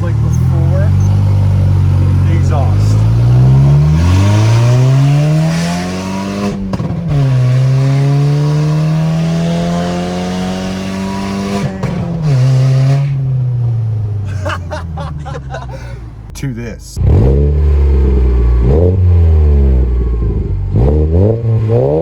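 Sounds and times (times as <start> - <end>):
car engine accelerating hard: 0.0 - 16.3, 17.0 - 22.0.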